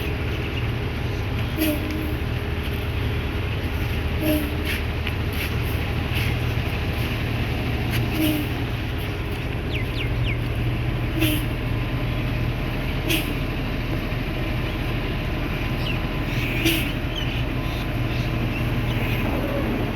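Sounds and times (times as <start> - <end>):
truck engine rumbling: 0.0 - 19.9.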